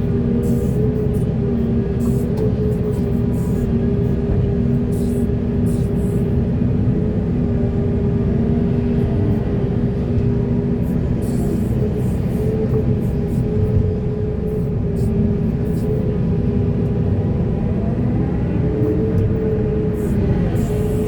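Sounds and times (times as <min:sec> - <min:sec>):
diesel engine rumbling under load: 0:00.0 - 0:21.0.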